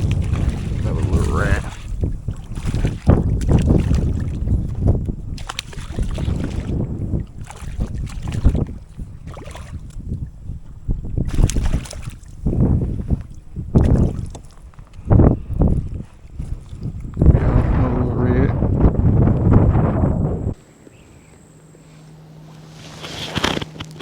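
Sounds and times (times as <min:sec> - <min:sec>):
water splashing against boat: 0:00.0 - 0:19.9
wind buffeting microphone: 0:00.0 - 0:20.6.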